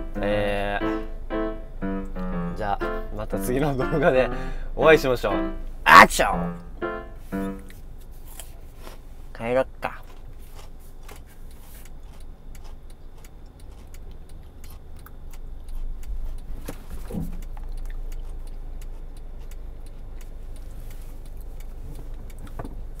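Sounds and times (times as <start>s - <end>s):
low steady car rumble: 0.0s - 23.0s.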